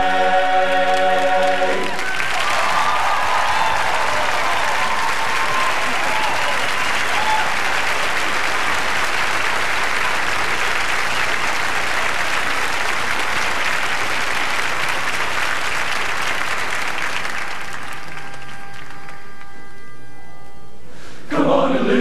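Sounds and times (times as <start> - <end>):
large audience applauding: 0.7 - 19.6.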